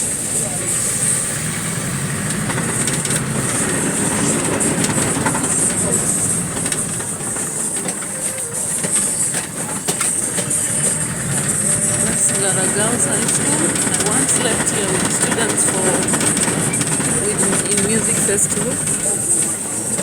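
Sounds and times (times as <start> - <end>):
vehicle road rumble and hiss: 0.0 - 20.0.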